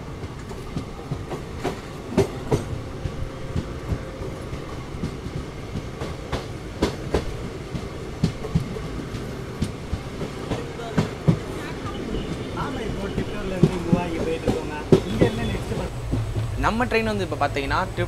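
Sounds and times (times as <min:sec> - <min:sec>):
train rumbling: 0:00.0 - 0:18.0
wheels clicking on track: 0:00.1 - 0:18.0.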